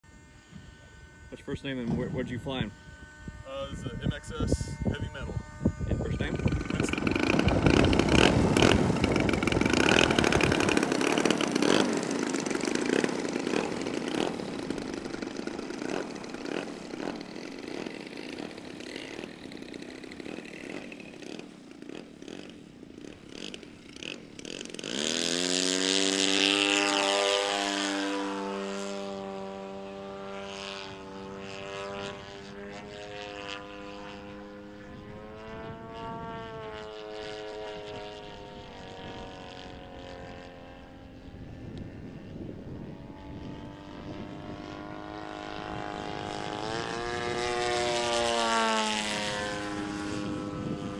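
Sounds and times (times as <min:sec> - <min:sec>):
model plane motor and propeller: 0:00.0 - 0:50.9.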